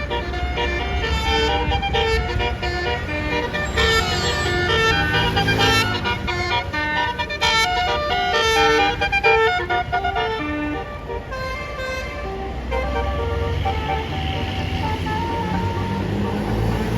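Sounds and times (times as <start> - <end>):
bus engine rumble: 0.0 - 16.9
multi-tone air horn melody: 0.0 - 16.9.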